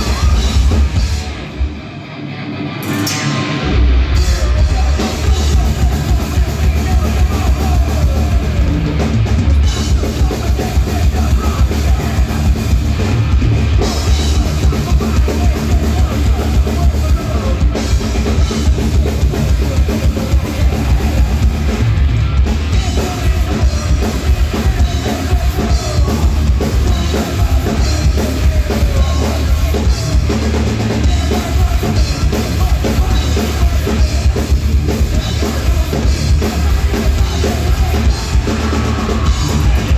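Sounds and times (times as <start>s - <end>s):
drum kit with kick drums: 0.0s - 1.5s, 2.8s - 39.9s
distorted electric guitars: 0.0s - 39.9s.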